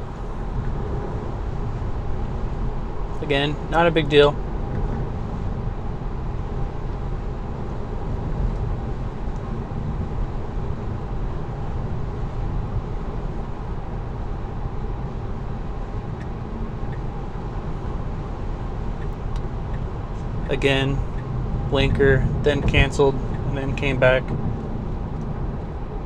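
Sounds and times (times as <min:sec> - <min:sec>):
road and tyre noise in car cabin: 0:00.0 - 0:26.0.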